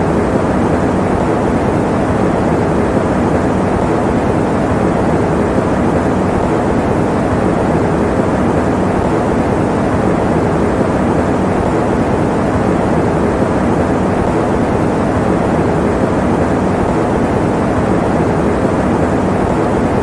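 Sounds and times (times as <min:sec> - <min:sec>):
fan running: 0:00.0 - 0:20.0.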